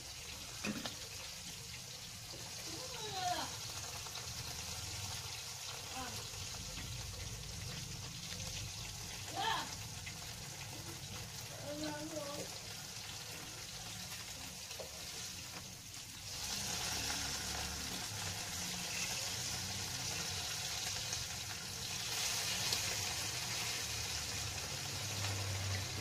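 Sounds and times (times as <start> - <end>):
fritters sizzling in hot oil: 0.0 - 26.0.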